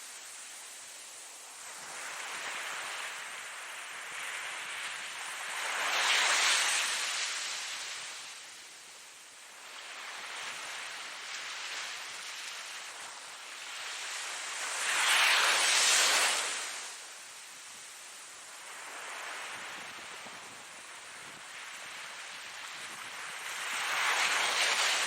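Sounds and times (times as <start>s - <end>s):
ocean waves breaking on shore: 1.2s - 25.0s.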